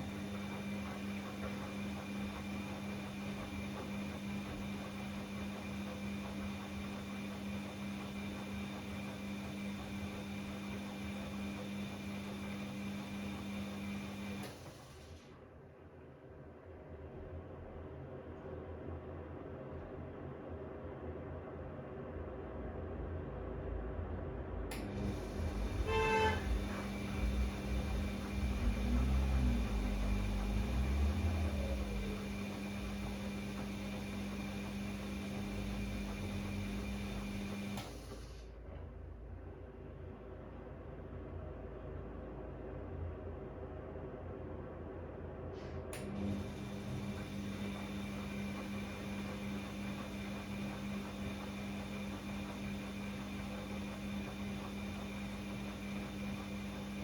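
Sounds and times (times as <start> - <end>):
washing machine motor hum: 0.0 - 57.0.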